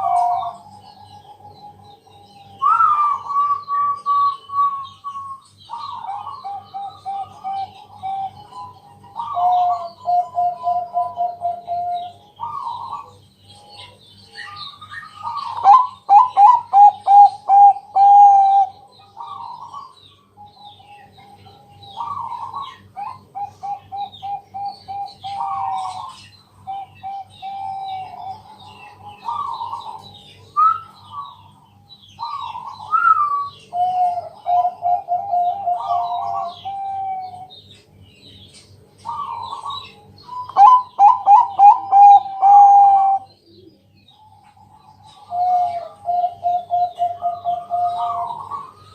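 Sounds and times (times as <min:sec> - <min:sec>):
doves cooing: 0:00.0 - 0:37.7, 0:39.0 - 0:48.9.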